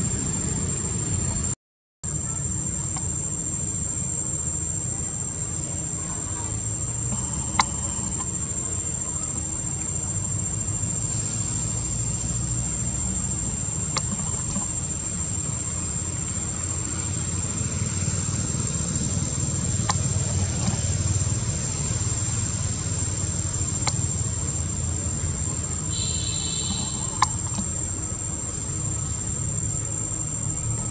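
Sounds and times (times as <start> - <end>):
high-pitched whine: 0.0 - 30.9
low engine-like rumble: 2.1 - 30.9.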